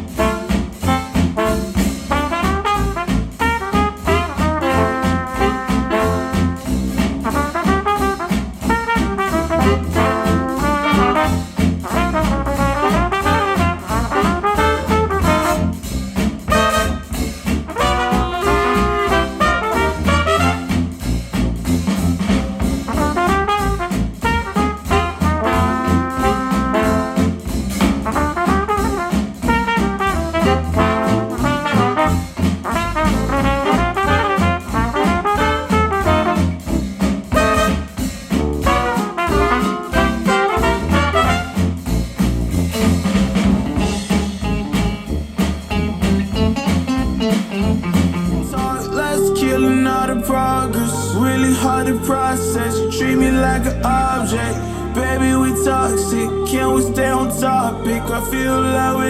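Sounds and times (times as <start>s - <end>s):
jazz with trumpet and trombone: 0.0s - 59.0s.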